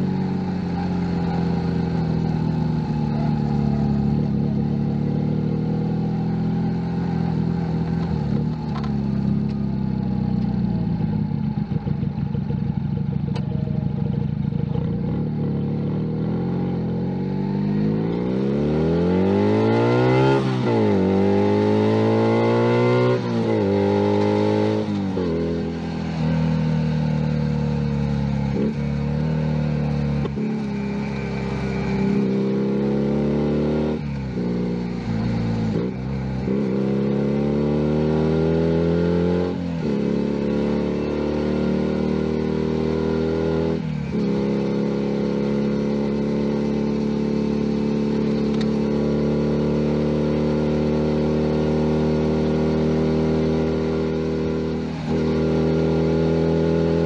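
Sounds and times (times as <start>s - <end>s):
motorcycle engine accelerating through gears: 0.0s - 57.0s.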